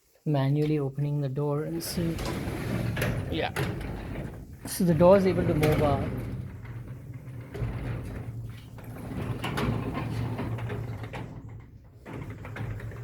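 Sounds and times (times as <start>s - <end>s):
garage door rolling on tracks: 1.7s - 13.0s.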